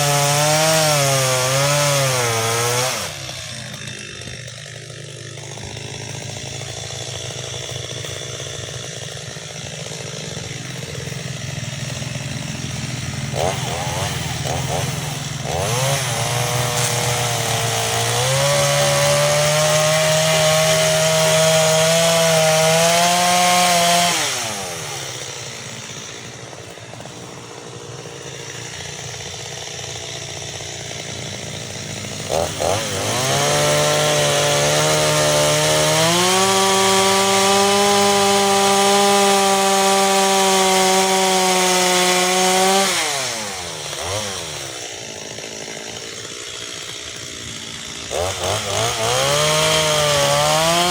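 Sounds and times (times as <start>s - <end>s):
chainsaw cutting wood: 0.0s - 50.9s
chainsaw idling: 0.0s - 50.9s.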